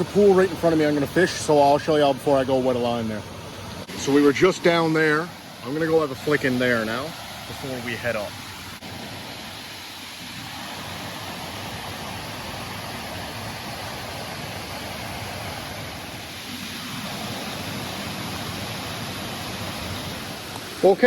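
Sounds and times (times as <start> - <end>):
creek pouring over waterfalls: 0.0 - 21.0.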